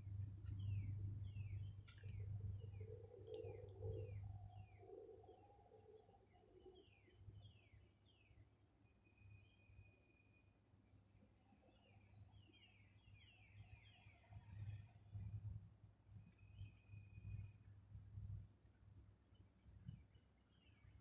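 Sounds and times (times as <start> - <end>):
bird singing: 0.0 - 15.6, 16.2 - 17.7, 19.2 - 21.0.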